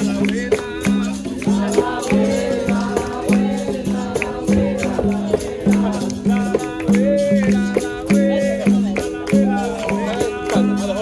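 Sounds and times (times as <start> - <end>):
berimbau struck in rhythm: 0.0 - 11.0
voices singing: 0.0 - 11.0.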